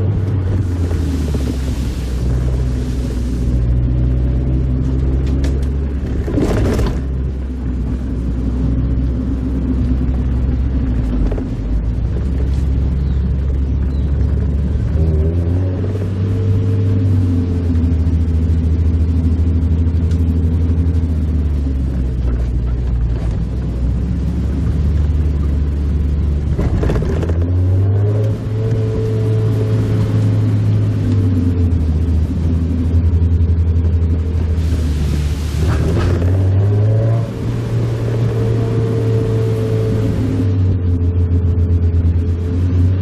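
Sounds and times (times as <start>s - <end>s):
rush of noise: 0.0s - 41.0s
car engine drone: 0.0s - 43.0s.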